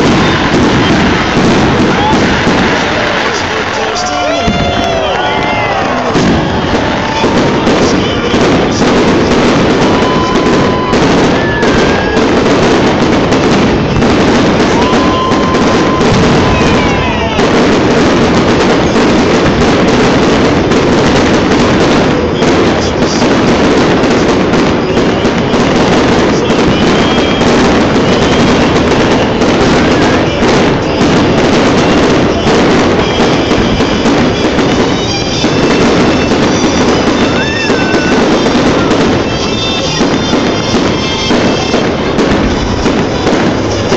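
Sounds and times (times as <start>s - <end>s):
fireworks bangs and crackling: 0.0s - 43.9s
whistling firework shells: 0.0s - 43.9s.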